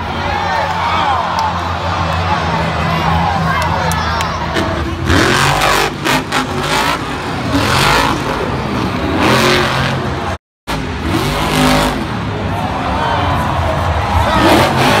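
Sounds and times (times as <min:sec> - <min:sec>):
truck engine revving: 0:01.6 - 0:12.7, 0:13.3 - 0:15.0.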